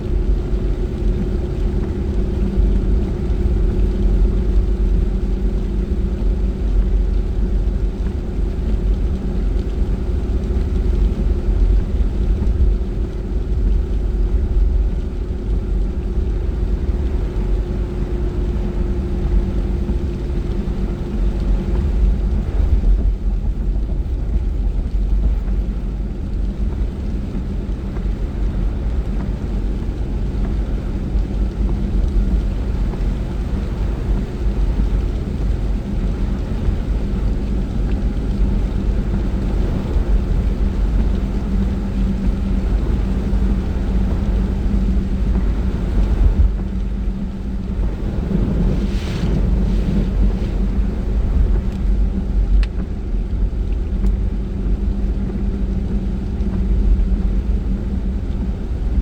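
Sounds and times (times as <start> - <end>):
car engine hum and road rumble: 0.0 - 59.0.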